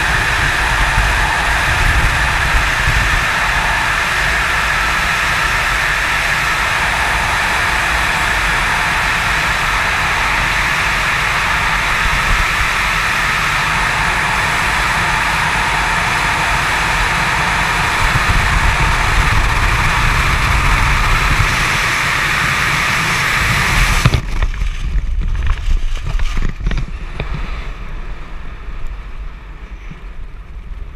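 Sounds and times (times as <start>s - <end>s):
freefall wind rushing: 0.0s - 30.9s
wind gusts and flaps: 0.0s - 30.9s.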